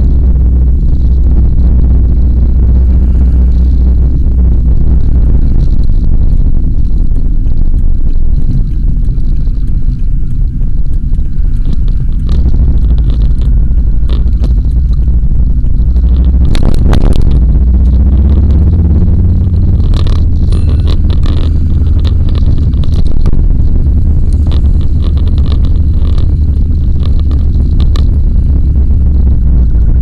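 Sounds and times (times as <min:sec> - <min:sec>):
car interior road and engine rumble: 0:00.0 - 0:30.0.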